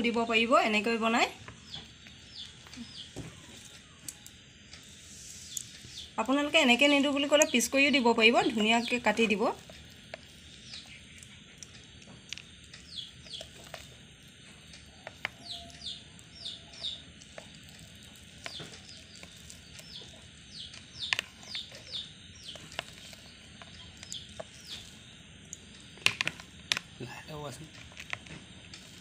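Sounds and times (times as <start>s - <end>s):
faint bird chirping: 0.0s - 29.0s.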